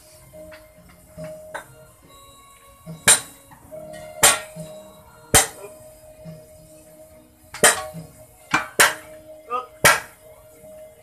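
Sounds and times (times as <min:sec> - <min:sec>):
steel bars clanging on rims: 0:00.0 - 0:10.3.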